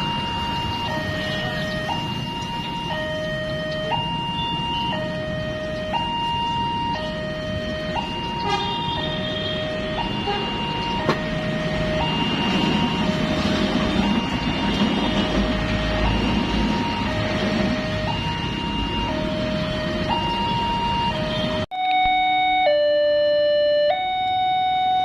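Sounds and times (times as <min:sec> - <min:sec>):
two-tone crossing warning siren: 0:00.0 - 0:25.0.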